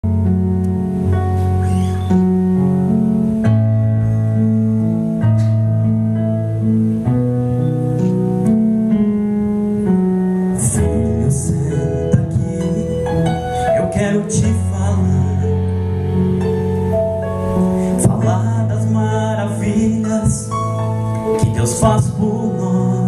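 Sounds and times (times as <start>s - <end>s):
band instruments: 0.0s - 23.0s
organ-like keyboard chords: 0.0s - 23.0s.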